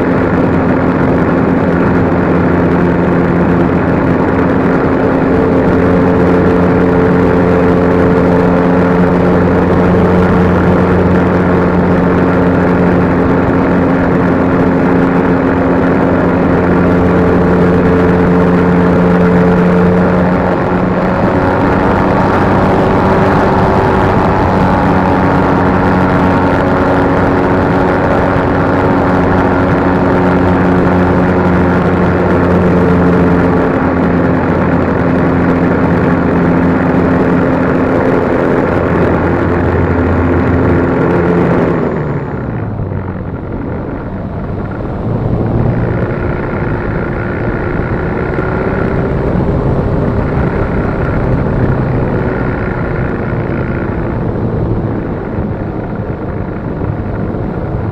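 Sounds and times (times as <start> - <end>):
model plane motor drone: 0.0 - 57.9.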